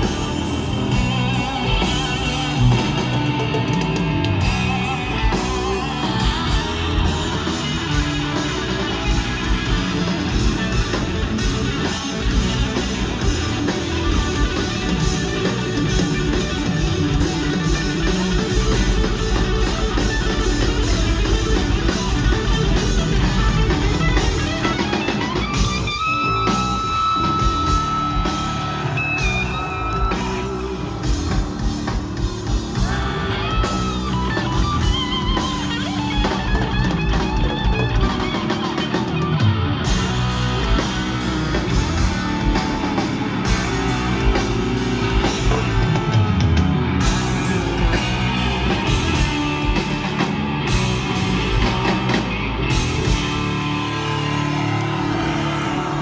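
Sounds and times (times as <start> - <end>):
electric guitar lead lines: 0.0 - 56.0
live rock band: 0.0 - 56.0.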